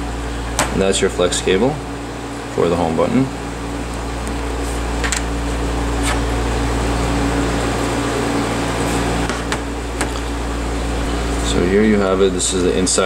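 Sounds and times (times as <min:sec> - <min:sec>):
room hum with low buzz: 0:00.0 - 0:13.0.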